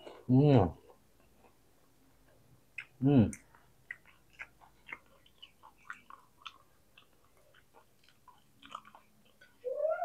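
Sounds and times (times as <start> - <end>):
person chewing with wet clicks: 0.8 - 9.7.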